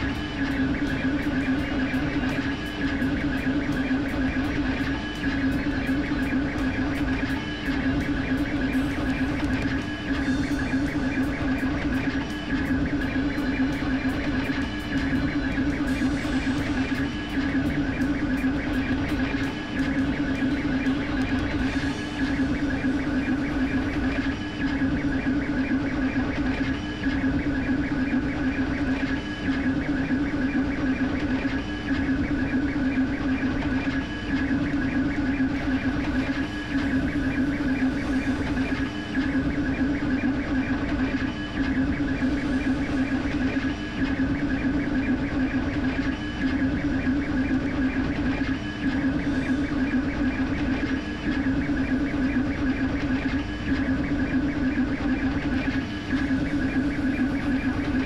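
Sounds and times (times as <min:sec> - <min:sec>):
three d printer drone and whine: 0:00.0 - 0:58.0.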